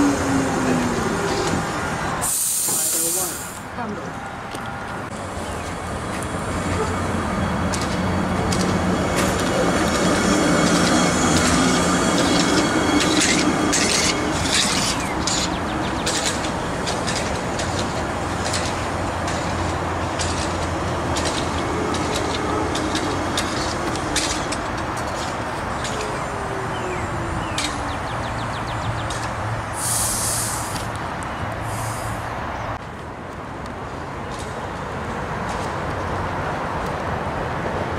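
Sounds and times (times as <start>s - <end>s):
streetcar motor hum: 0.0s - 37.9s
wheels clicking and squealing on rails: 0.0s - 37.9s.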